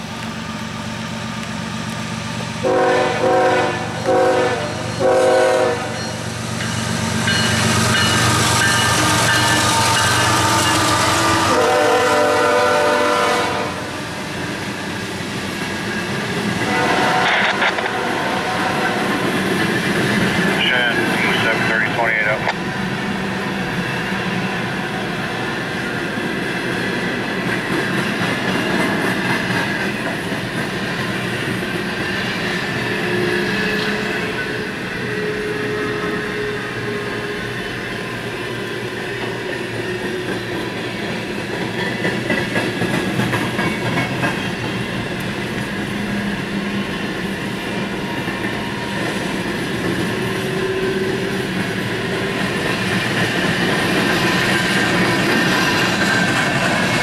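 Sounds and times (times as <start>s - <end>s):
steel wheels rolling on rail: 0.0s - 57.0s.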